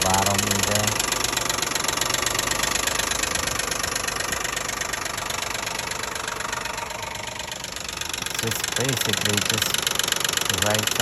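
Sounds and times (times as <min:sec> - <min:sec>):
car engine idling: 0:00.0 - 0:11.0
rapid ticking clatter from engine: 0:00.0 - 0:11.0.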